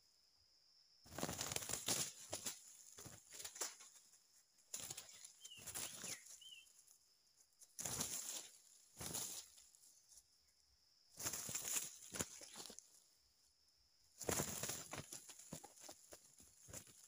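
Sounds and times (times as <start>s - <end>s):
roosters wing-beating and scuffling: 1.1s - 10.3s, 11.1s - 13.0s, 14.2s - 17.0s.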